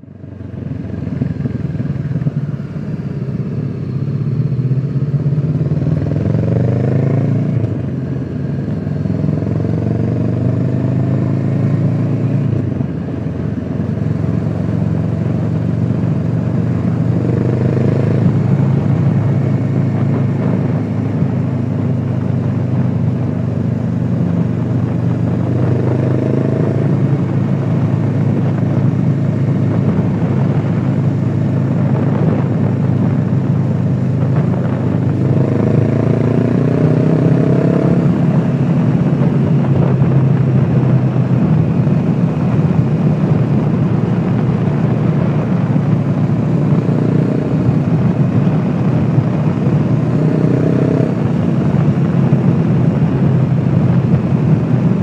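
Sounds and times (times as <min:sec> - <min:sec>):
muffled motorcycle engine revving: 0:00.0 - 0:55.0.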